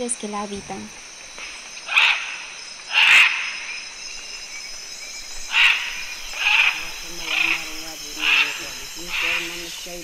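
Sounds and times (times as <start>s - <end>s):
insect chorus buzzing: 0.0s - 10.0s.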